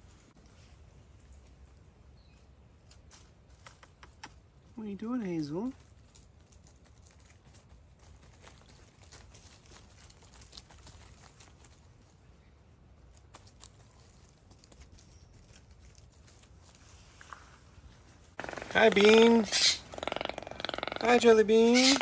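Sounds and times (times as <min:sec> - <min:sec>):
light ticks and rustles: 0:00.0 - 0:18.3.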